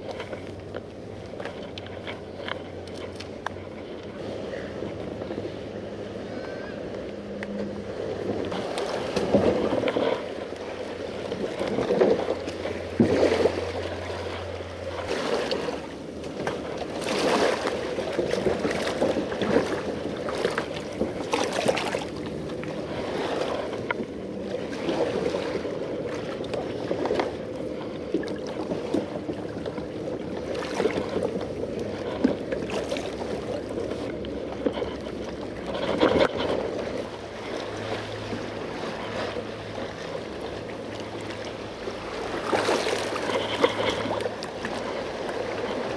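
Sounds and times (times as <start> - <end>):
footsteps splashing in shallow water: 8.5 - 45.9.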